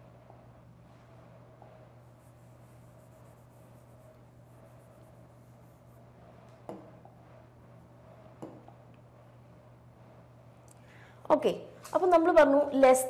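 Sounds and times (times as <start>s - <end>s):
stylus scratching on screen: 0.0s - 10.5s
faint steady hum: 0.0s - 13.0s.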